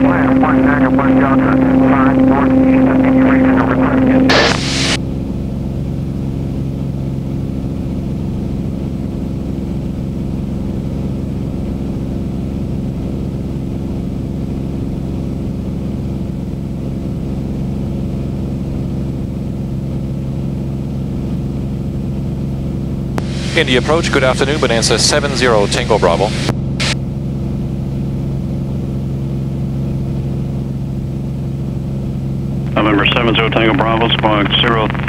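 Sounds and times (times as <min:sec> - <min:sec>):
propeller plane engine drone: 0:00.0 - 0:35.0.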